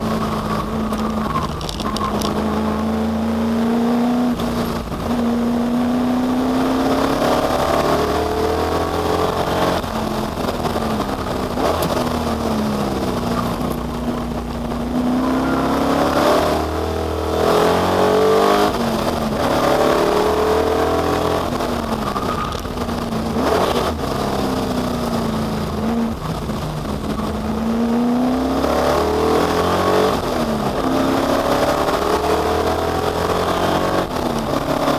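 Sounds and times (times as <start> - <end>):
racing car engine at full throttle: 0.0 - 34.9.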